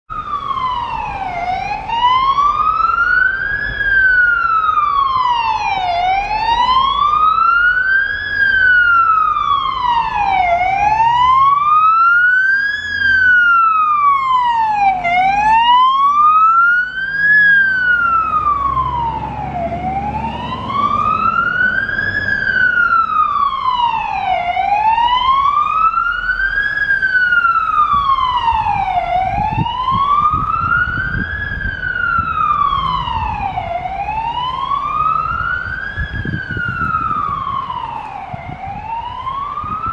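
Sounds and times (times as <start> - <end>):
fire engine siren wailing: 0.1 - 39.9.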